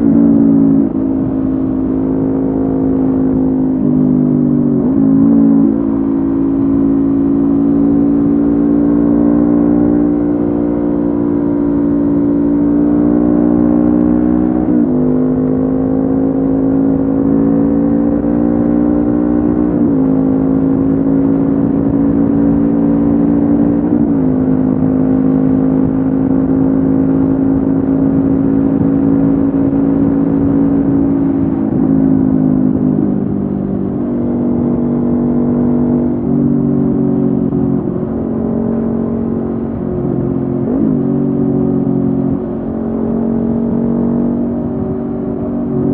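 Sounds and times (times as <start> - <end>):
motorcycle engine while riding: 0.0 - 45.9.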